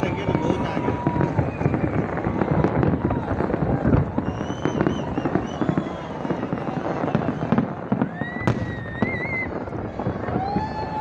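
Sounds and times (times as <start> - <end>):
fireworks bangs and crackling: 0.0 - 11.0
rising firework whistle: 0.0 - 11.0.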